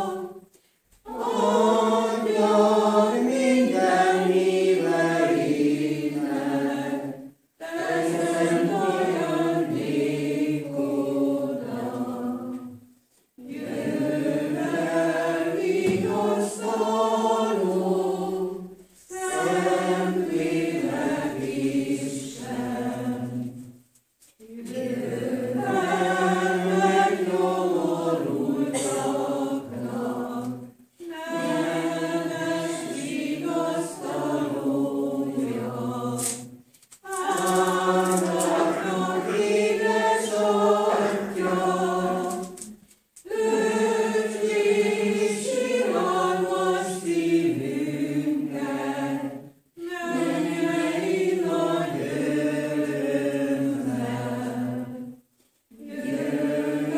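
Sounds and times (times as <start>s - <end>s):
congregation singing a hymn: 0.0s - 56.9s.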